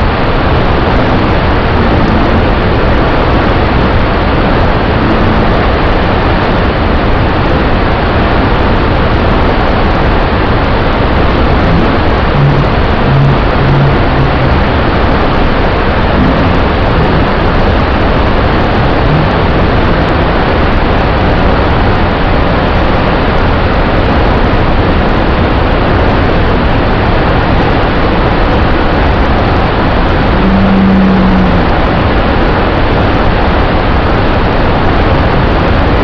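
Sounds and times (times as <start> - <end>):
waterfall crashing: 0.0 - 36.0.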